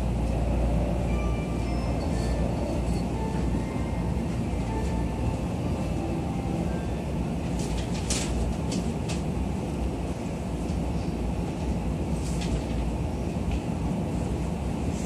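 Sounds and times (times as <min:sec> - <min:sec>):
train car rumble and hum: 0:00.0 - 0:15.0.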